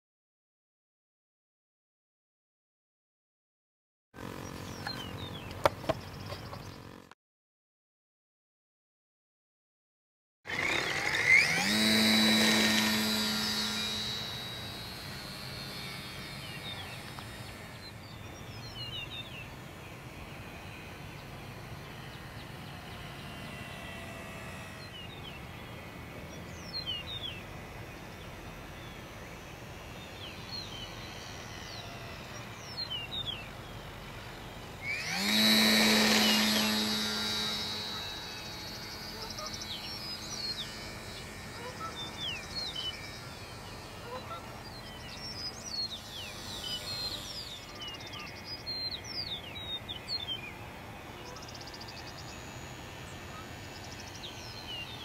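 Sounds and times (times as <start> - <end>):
model airplane motor buzzing: 4.2 - 7.1, 10.5 - 55.0
faint birds chirping: 4.3 - 7.1, 10.6 - 55.0.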